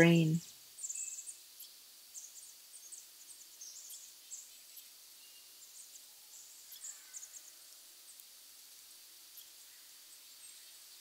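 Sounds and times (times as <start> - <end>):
small birds chirping: 0.0 - 11.0
soft outdoor hiss: 0.0 - 11.0.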